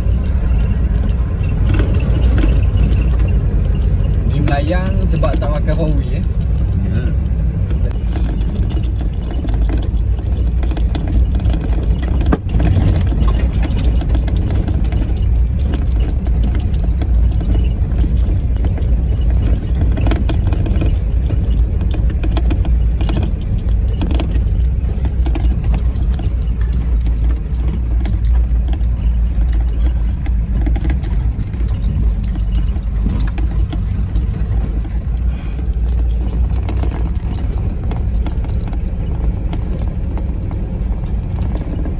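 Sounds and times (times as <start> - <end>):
knocks and rattles: 0.0 - 41.9
off-road vehicle engine rumbling: 0.0 - 41.9.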